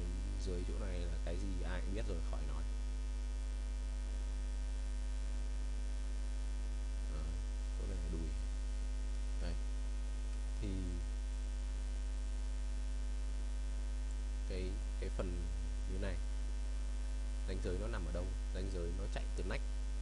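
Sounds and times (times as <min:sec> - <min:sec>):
electrical mains hum: 0:00.0 - 0:20.0
faint steady tones: 0:00.0 - 0:20.0.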